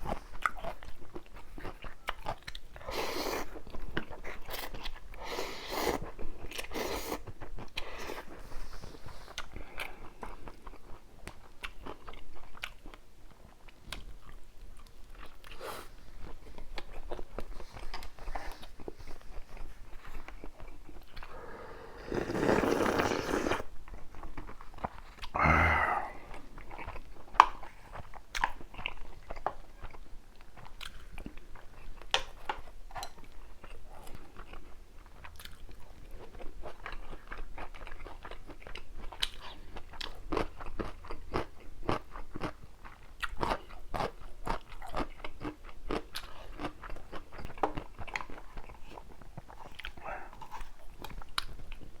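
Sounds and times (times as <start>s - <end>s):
chewing food with crunches: 0.0s - 52.0s.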